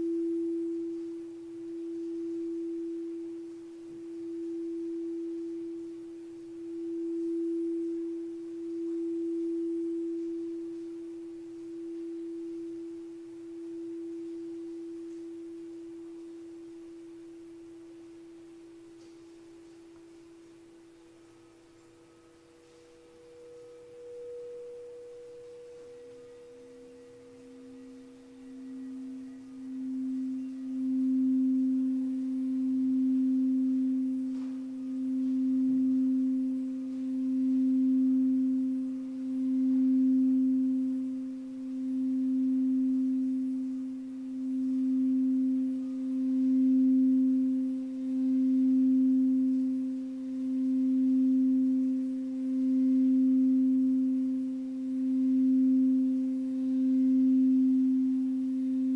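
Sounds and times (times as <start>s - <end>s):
faint higher ringing tone: 0.0s - 58.9s
singing bowl low sustained tone: 0.0s - 58.9s.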